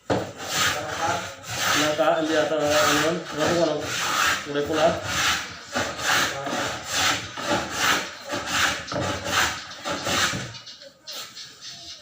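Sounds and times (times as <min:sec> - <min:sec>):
rubbing strokes on wood: 0:00.0 - 0:11.4.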